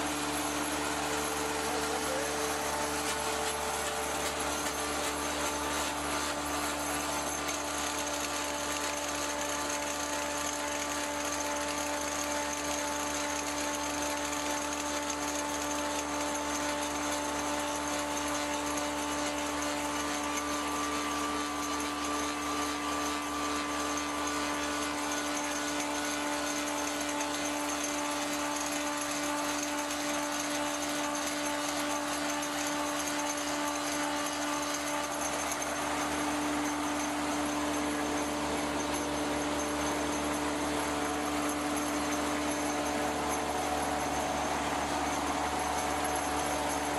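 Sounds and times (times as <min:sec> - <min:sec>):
lathe machine whir: 0:00.0 - 0:46.9.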